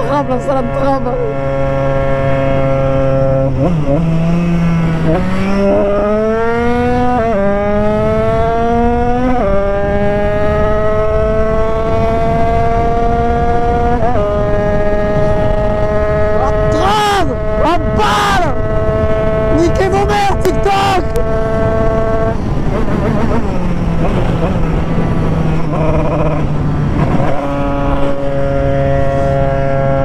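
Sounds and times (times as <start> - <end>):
two-stroke engine accelerating: 0.0 - 30.0.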